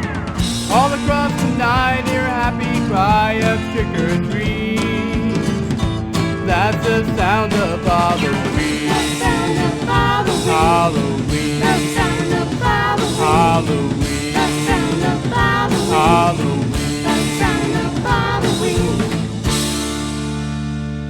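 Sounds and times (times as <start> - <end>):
steady drum beat: 0.0 - 20.6
upbeat band music: 0.0 - 21.0.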